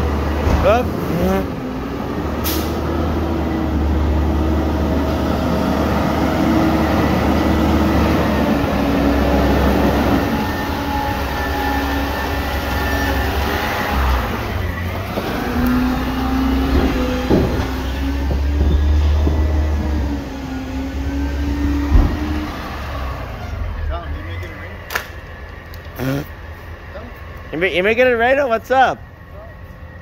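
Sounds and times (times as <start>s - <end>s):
garbage truck engine humming: 0.0s - 30.0s.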